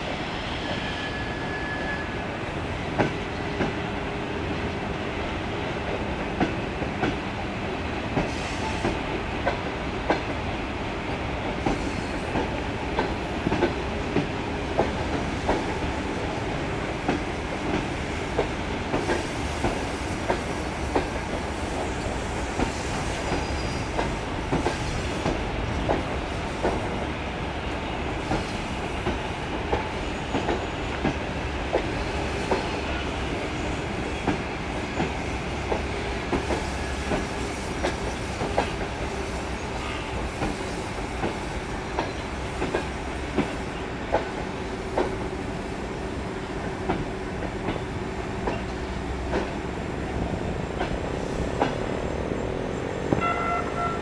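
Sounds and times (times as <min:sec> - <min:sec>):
train rumble: 0:00.0 - 0:54.0
train wheels clicking on rail joints: 0:02.5 - 0:05.0, 0:05.6 - 0:10.6, 0:11.2 - 0:53.9.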